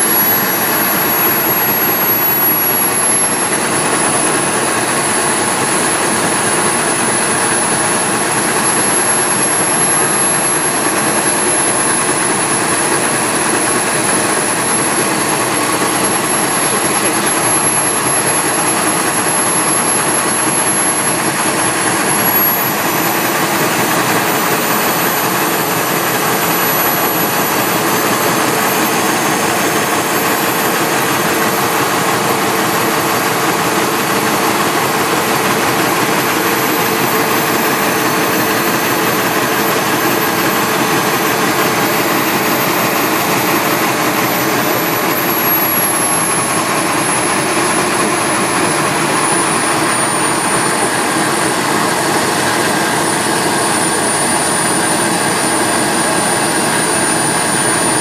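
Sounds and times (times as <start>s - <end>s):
model gas turbine roaring: 0.0s - 58.0s.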